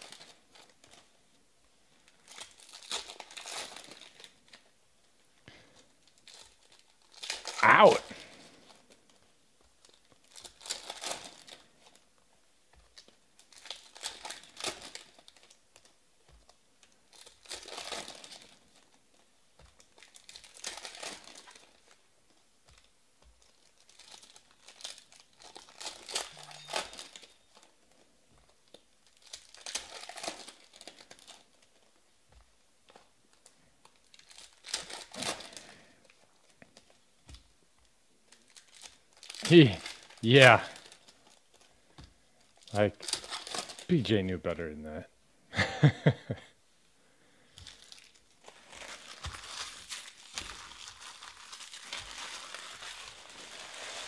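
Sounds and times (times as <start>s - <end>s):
foil wrappers crinkling and tearing: 0.0s - 4.8s, 5.5s - 37.6s, 38.2s - 44.2s, 47.3s - 54.0s.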